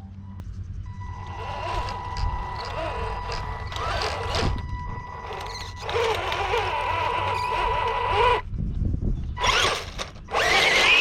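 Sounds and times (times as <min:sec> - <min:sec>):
toy tank motor whine: 0:01.1 - 0:08.4, 0:09.4 - 0:11.0.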